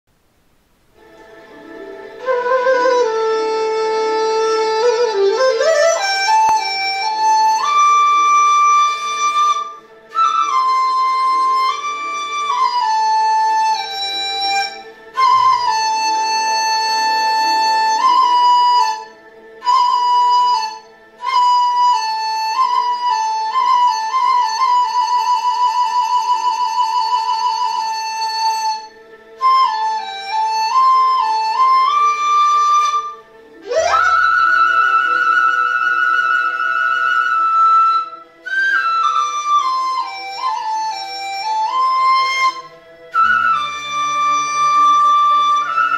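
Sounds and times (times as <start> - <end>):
bamboo flute melody: 0.9 - 45.9.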